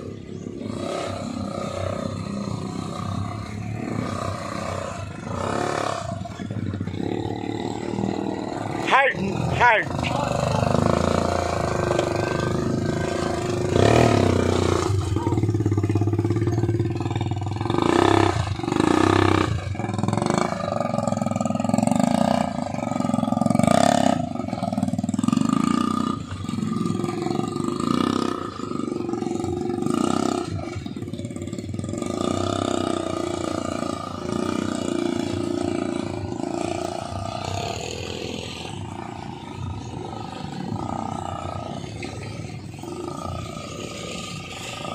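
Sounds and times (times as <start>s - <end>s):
quad bike engine revving: 0.0s - 44.9s.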